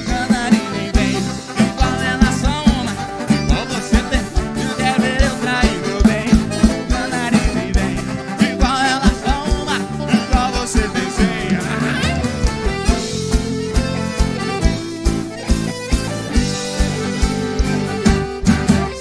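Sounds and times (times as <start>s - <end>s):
drum kit beat: 0.0s - 19.0s
live band playing upbeat song: 0.0s - 19.0s.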